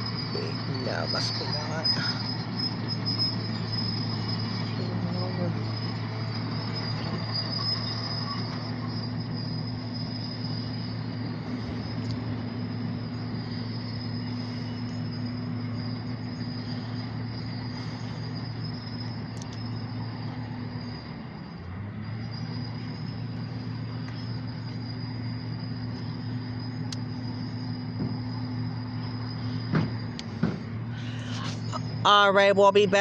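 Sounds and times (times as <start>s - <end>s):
faint high whine: 0.0s - 33.0s
low mechanical hum: 0.0s - 33.0s.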